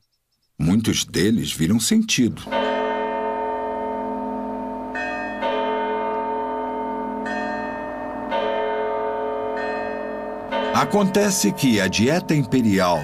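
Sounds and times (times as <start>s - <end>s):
church bells ringing: 2.4s - 13.0s.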